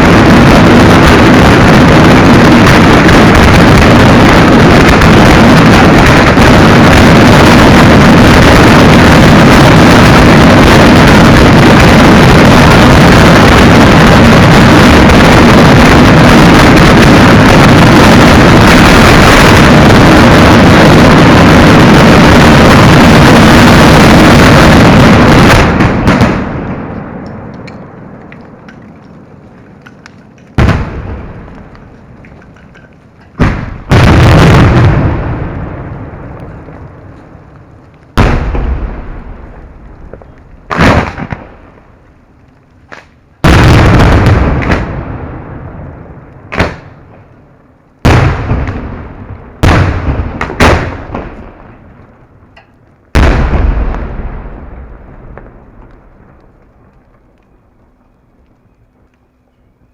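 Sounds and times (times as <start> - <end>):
fireworks barrage: 0.0 - 58.4.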